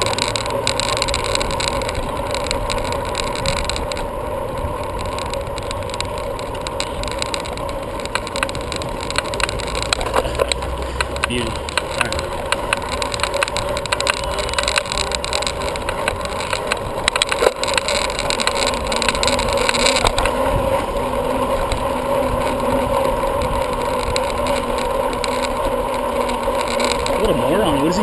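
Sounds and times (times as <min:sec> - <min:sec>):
bicycle rolling: 0:00.0 - 0:28.0
constant hum: 0:00.0 - 0:28.0
small clicks and rattles: 0:00.0 - 0:28.0.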